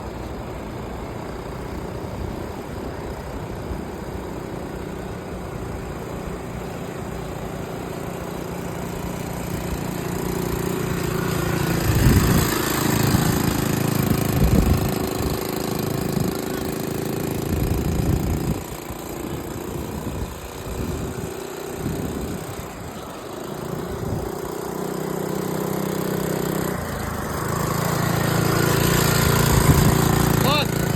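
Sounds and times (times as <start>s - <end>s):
dirt bike engine revving: 4.0s - 30.9s.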